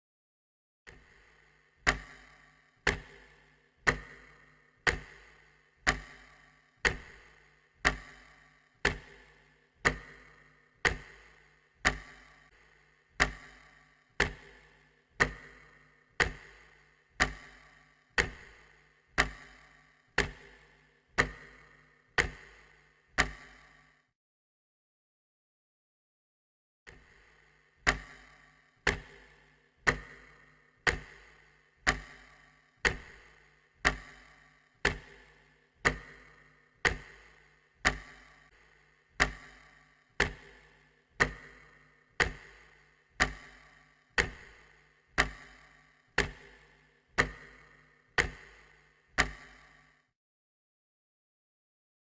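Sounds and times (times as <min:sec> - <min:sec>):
clock ticking: 0:00.9 - 0:23.9, 0:26.9 - 0:50.0.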